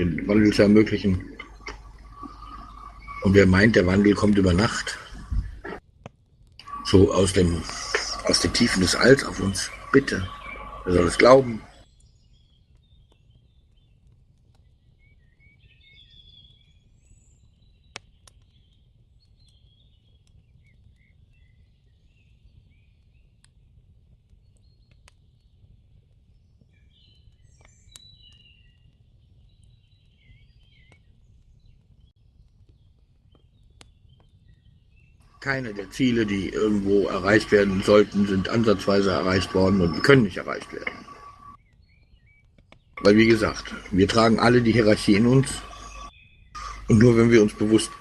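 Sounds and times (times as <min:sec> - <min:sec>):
faint birds chirping: 0:00.0 - 0:48.0.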